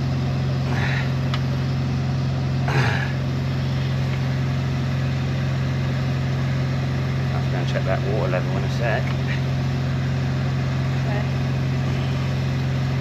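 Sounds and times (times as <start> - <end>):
drain-jetting machine engine running: 0.0 - 13.0.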